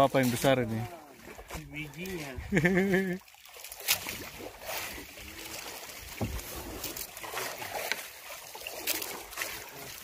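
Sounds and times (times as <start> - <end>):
water lapping against wooden boat: 0.0 - 10.0.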